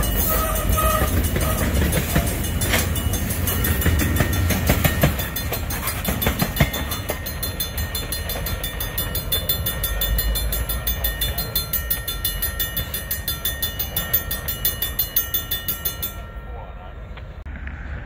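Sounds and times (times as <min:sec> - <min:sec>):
freight cars rumbling on rails: 0:00.0 - 0:18.0
wheels clacking: 0:00.0 - 0:18.0.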